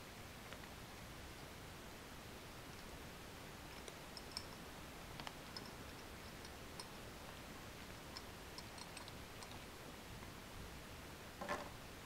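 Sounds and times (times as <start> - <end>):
low room hiss: 0.0 - 12.0.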